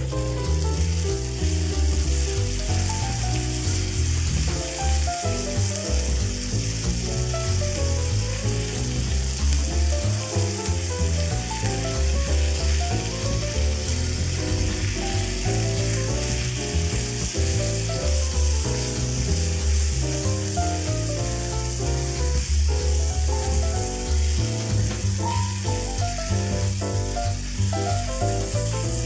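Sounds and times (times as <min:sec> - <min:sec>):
background music with bass line: 0:00.0 - 0:29.0
food sizzling in a skillet: 0:00.0 - 0:29.0.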